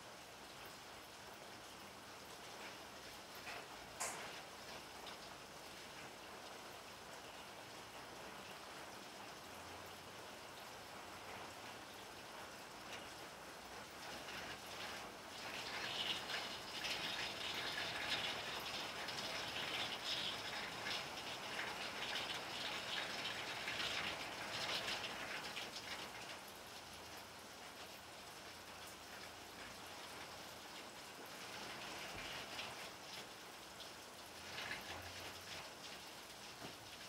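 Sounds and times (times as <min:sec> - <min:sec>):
rain falling on rooftops: 0:00.0 - 0:37.0.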